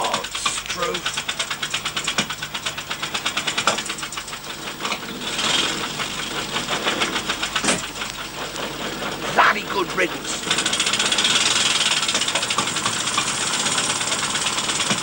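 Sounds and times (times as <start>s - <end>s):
motorcycle engine ticking over: 0.0s - 15.0s.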